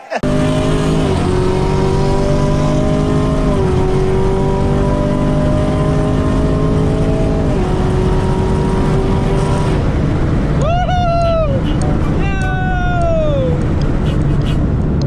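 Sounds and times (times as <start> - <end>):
car engine accelerating hard: 0.2 - 15.0.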